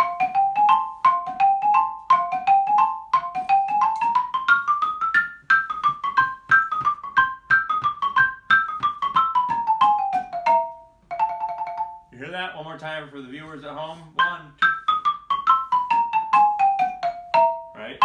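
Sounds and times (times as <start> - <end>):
xylophone played with mallets: 0.0 - 12.2, 13.7 - 18.0.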